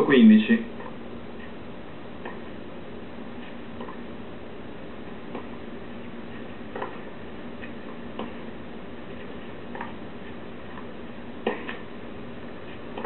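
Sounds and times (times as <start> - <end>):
broadcast hiss and hum: 0.0 - 13.0.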